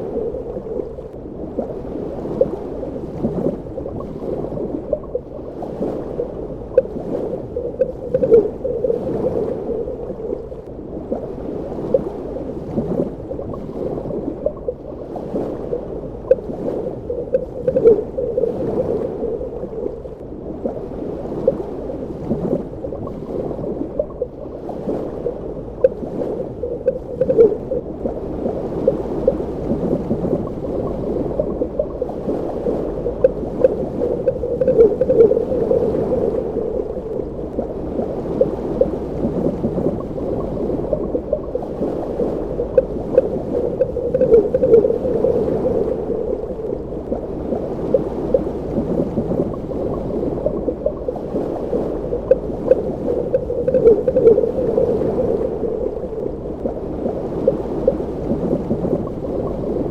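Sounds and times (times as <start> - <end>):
underwater bubbling and gurgling: 0.0 - 59.9.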